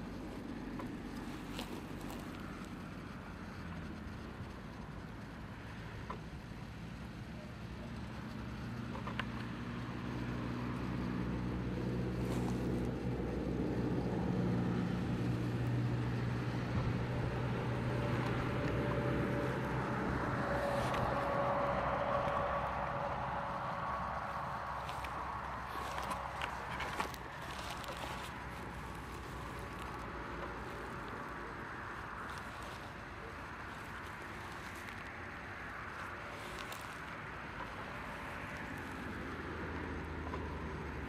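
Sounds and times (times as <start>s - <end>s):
vehicle engine hum: 0.0s - 41.0s.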